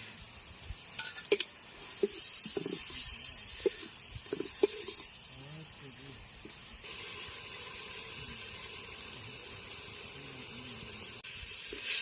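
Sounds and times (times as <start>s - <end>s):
running water hiss: 0.0s - 12.0s.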